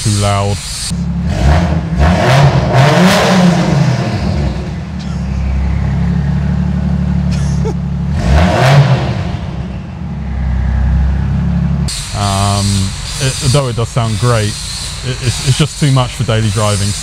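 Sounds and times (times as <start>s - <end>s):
car engine idling: 0.0s - 2.8s, 3.4s - 17.0s
car engine revving: 0.0s - 17.0s.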